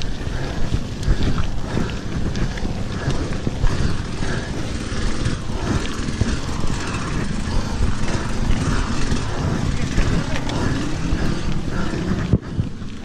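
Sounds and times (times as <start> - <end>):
bike rattling over bumps: 0.0 - 13.0
bike tyre rumble on dirt: 0.0 - 13.0
wind noise on microphone: 0.0 - 13.0.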